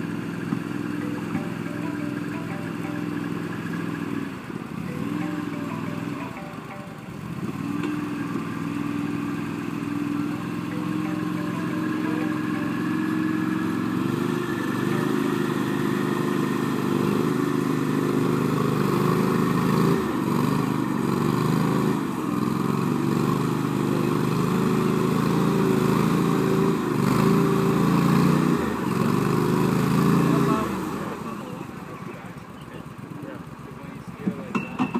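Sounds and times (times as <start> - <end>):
vehicle engine running under load: 0.0 - 34.9.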